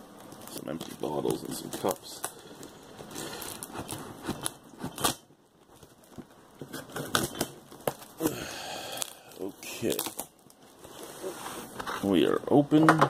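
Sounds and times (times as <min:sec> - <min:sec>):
cardboard and tape tearing: 0:00.3 - 0:08.3, 0:08.9 - 0:12.2.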